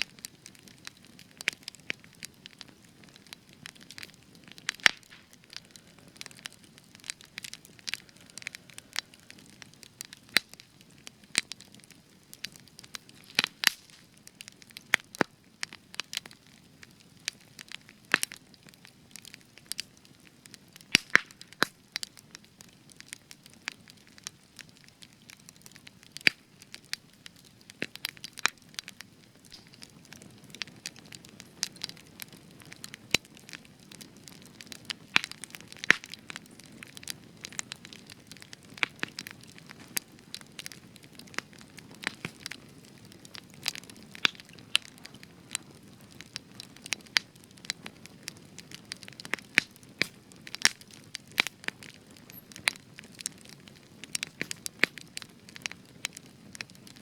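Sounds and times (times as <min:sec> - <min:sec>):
campfire crackling and popping: 0:00.0 - 0:57.0
low rumble of flame: 0:00.0 - 0:57.0.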